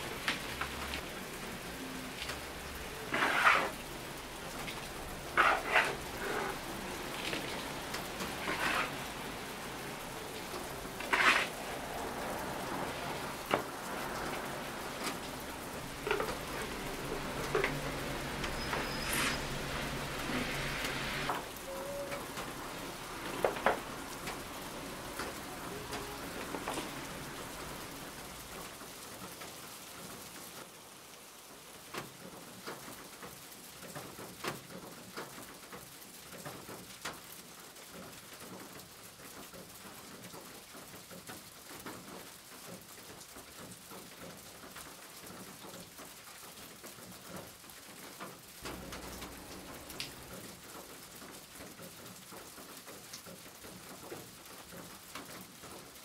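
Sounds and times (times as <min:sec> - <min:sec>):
raindrop ticks: 0:00.0 - 0:03.1, 0:03.8 - 0:20.2, 0:20.8 - 0:30.8, 0:31.8 - 0:56.0
steady rain hiss: 0:00.0 - 0:56.0.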